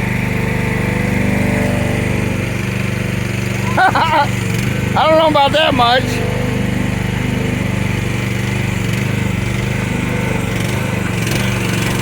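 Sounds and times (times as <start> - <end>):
small excavator engine running: 0.0 - 12.0.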